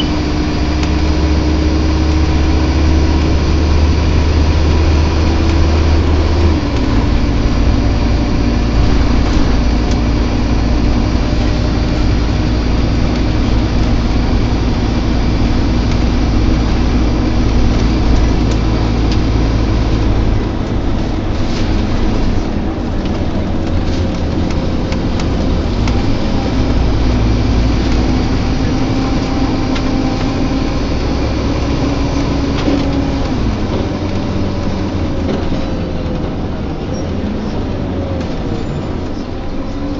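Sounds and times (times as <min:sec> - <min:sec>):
bus engine rumble and drone: 0:00.0 - 0:39.9.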